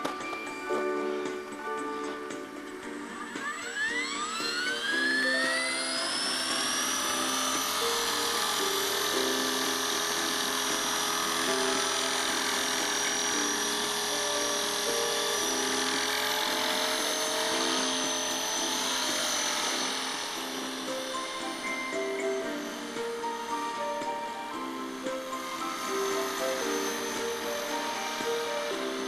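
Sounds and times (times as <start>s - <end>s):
rc helicopter rotor whining: 0.0s - 29.0s
synthesized background music: 0.0s - 29.0s.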